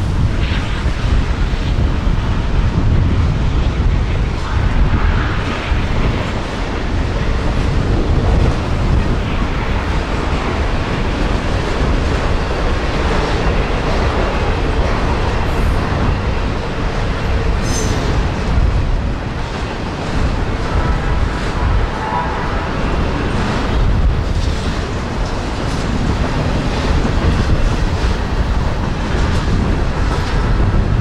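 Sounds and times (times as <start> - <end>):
freight train cars rolling: 0.0 - 31.0.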